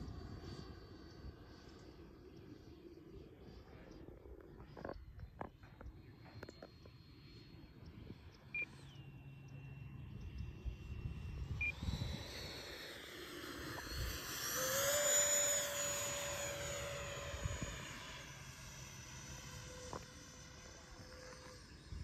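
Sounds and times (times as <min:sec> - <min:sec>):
model jet ducted fan whining: 0:00.0 - 0:22.0.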